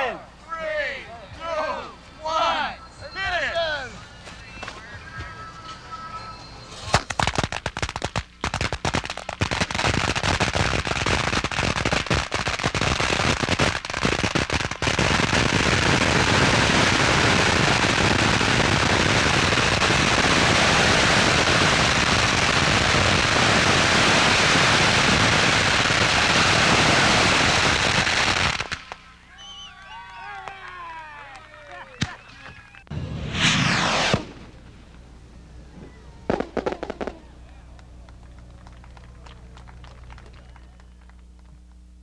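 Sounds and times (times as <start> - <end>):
firecrackers popping: 6.7 - 42.0.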